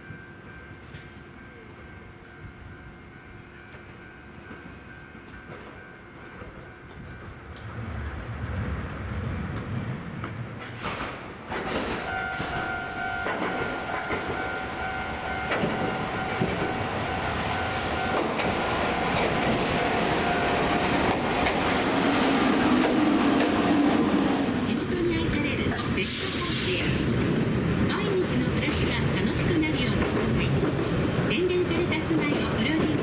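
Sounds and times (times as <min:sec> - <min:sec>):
tram running on track: 0:00.0 - 0:33.0.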